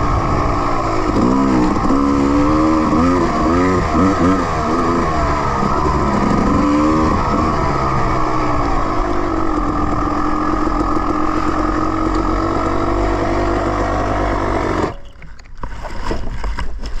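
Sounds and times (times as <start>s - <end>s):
dirt bike engine running: 0.0s - 15.1s.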